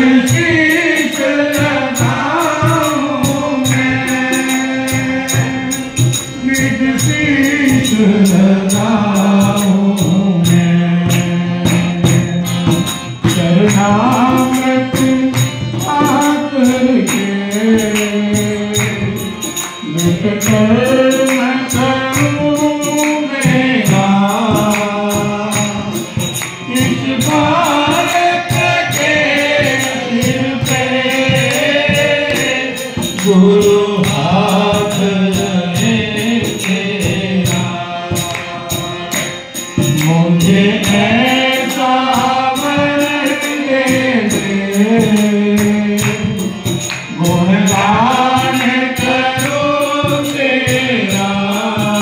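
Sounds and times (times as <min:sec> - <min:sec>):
devotional song melody: 0:00.0 - 0:52.0
steady percussion: 0:00.0 - 0:52.0.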